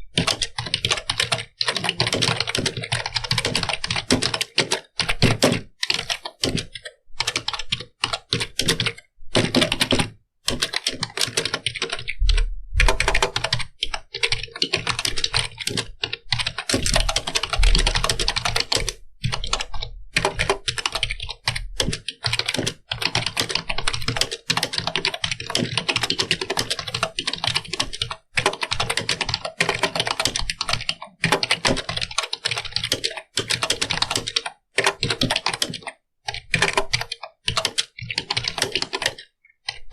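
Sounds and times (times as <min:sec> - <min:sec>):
fast typing on computer keyboard: 0:00.0 - 0:39.9.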